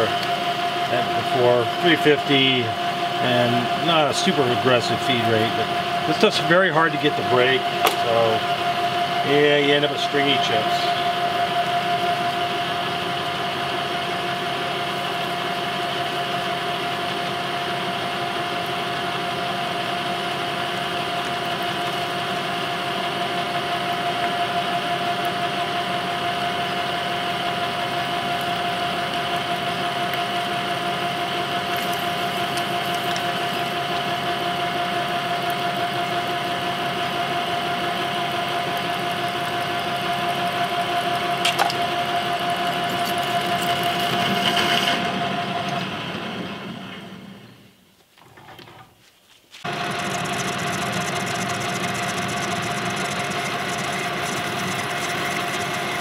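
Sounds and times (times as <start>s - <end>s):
metal lathe humming: 0.0s - 47.7s, 49.7s - 56.0s.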